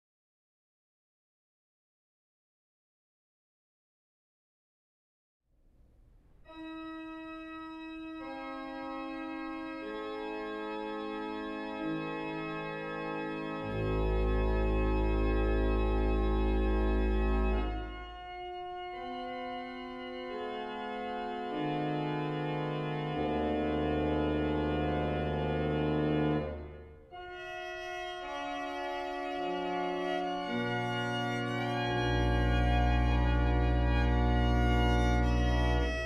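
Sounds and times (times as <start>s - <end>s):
organ playing sustained chords: 6.4s - 36.0s
deep organ pedal bass: 6.5s - 36.0s.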